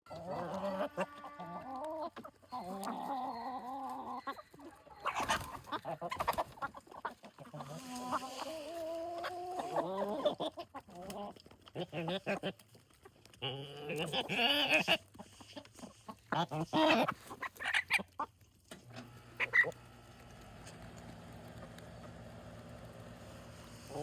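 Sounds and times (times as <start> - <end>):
chickens calling: 0.1 - 18.5, 19.1 - 24.0
chickens clucking: 0.1 - 24.0.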